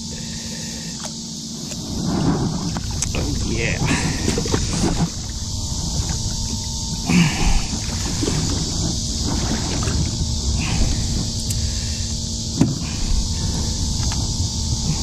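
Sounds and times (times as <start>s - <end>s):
river water splashing: 0.0s - 15.0s
steady low rumble: 0.0s - 15.0s.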